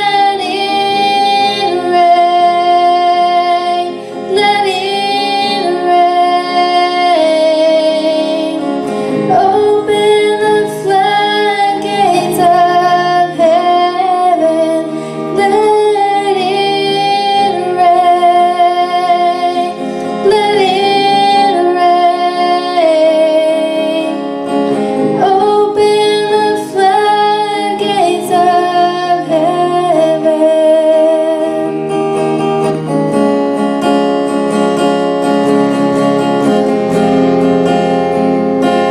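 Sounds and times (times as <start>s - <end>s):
woman singing: 0.0s - 32.0s
acoustic guitar: 0.0s - 38.9s.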